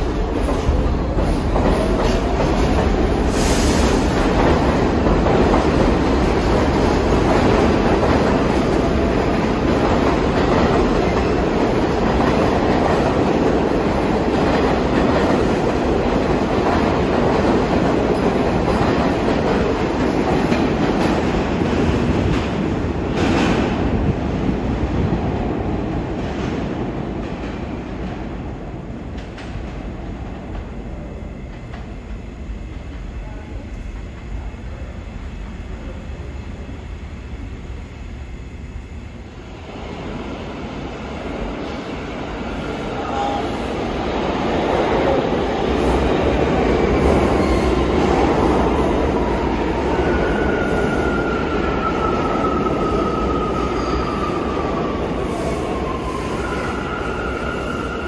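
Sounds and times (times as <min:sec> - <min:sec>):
subway train rumbling on rails: 0:00.0 - 0:58.0.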